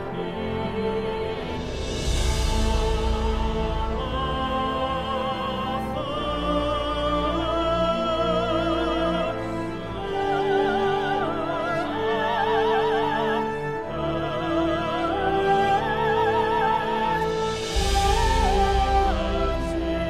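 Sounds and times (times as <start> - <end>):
operatic singing: 0.0 - 20.0
orchestral accompaniment: 0.0 - 20.0.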